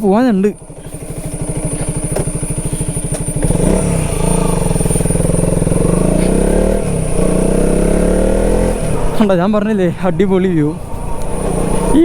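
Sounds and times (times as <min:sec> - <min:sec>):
motorcycle accelerating through gears: 0:00.0 - 0:12.0.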